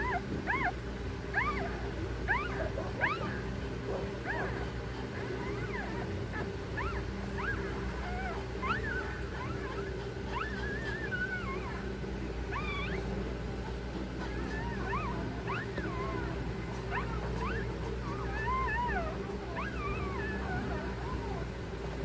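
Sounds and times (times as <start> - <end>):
dog squeaking and whining: 0.0 - 3.5, 4.2 - 13.2, 13.9 - 21.5
low steady hum: 0.0 - 22.0.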